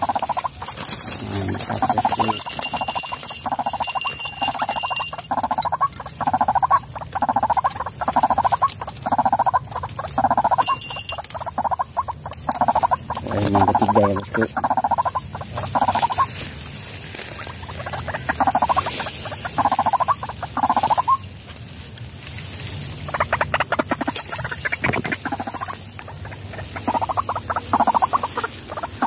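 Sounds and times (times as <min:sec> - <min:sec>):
waterhen croaking calls: 0:00.0 - 0:21.3, 0:23.0 - 0:29.0.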